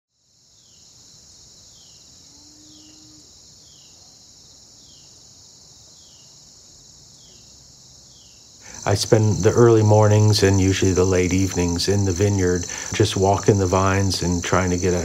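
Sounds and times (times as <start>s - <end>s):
cricket chorus trilling: 0.2s - 15.0s.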